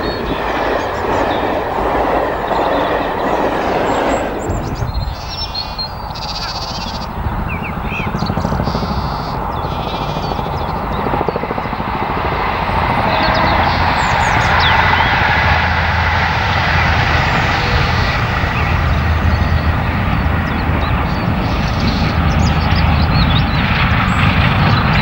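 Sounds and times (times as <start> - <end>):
steam train passing: 0.0 - 25.0.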